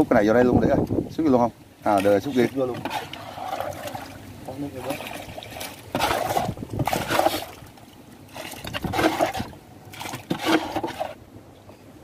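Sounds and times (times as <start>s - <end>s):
water splashing and sloshing: 1.7s - 11.3s.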